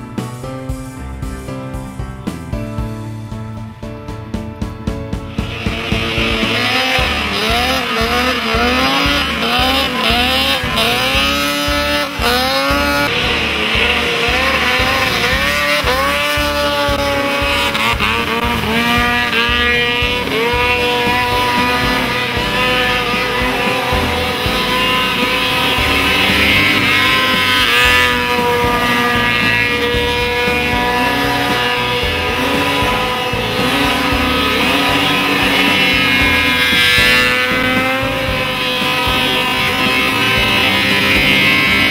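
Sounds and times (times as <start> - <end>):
music with drum beat: 0.0 - 41.9
snowmobile engine revving: 5.1 - 41.9.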